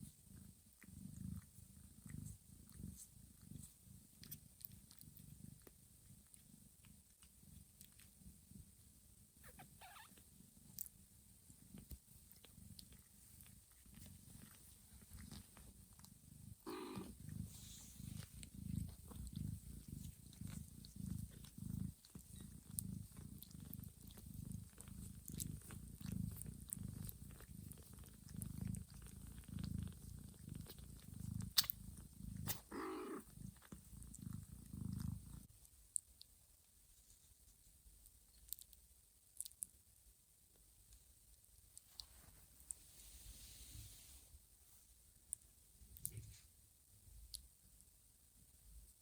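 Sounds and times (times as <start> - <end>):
cat purring: 0.0 - 39.9, 40.6 - 47.8.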